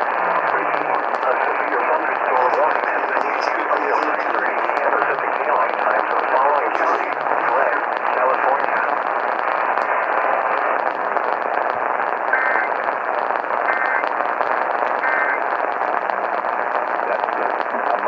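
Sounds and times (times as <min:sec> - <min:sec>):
radio static: 0:00.0 - 0:18.0.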